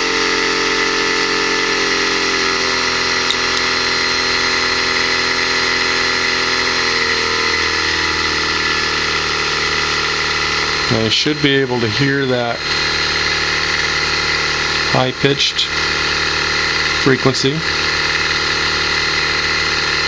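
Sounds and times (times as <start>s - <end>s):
high-pitched electronic whine: 0.0s - 20.0s
vacuum pump running: 0.0s - 20.0s.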